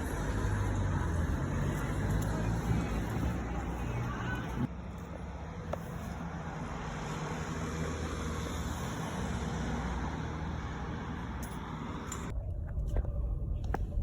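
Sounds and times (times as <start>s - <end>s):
road noise rushing: 0.0s - 12.3s.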